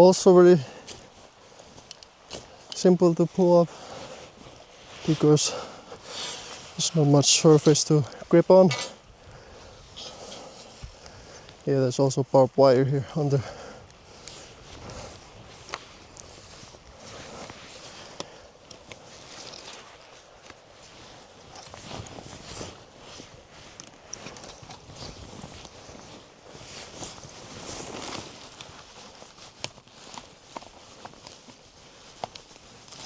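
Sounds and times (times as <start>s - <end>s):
footsteps rustling through grass: 0.0s - 33.0s.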